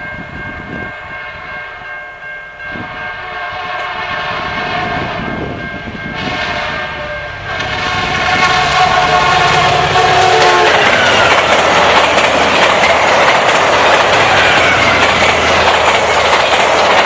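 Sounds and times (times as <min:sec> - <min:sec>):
diesel locomotives approaching: 0:00.0 - 0:17.0
train horn sounding: 0:00.6 - 0:01.9, 0:02.7 - 0:16.8.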